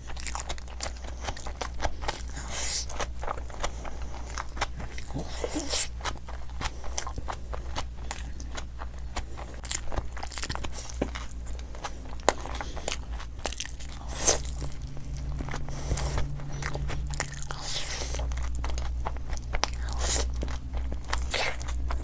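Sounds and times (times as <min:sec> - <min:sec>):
crunchy chewing: 0:00.0 - 0:22.0
low hum: 0:00.0 - 0:22.0.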